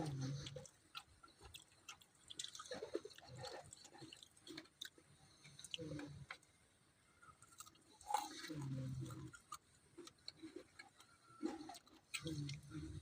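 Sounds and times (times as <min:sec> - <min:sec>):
person chewing: 0:00.0 - 0:06.4, 0:07.3 - 0:13.0.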